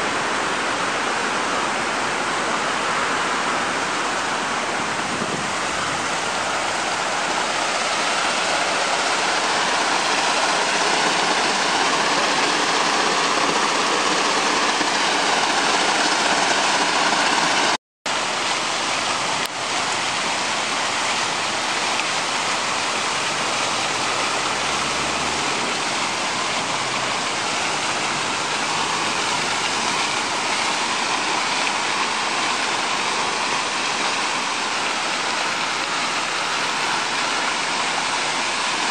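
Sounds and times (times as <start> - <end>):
fountain water splashing into basin: 3.2 - 38.9.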